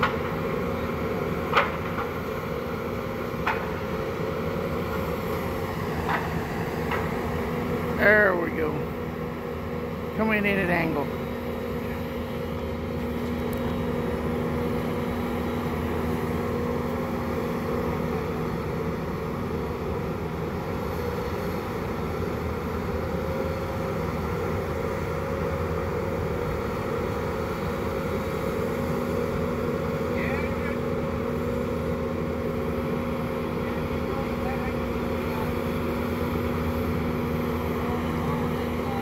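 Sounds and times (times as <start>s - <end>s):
diesel engine running: 0.0s - 39.0s
steady whine: 0.0s - 39.0s.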